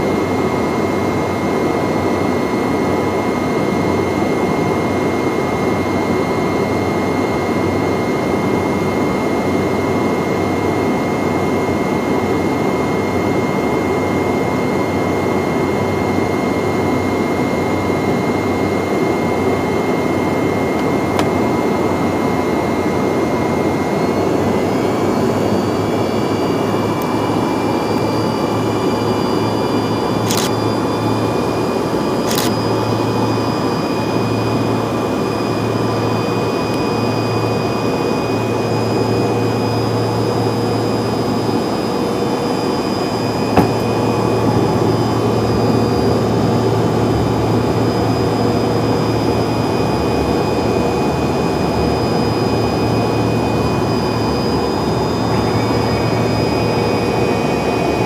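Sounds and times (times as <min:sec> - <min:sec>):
jet engines with high whine: 0:00.0 - 0:58.0.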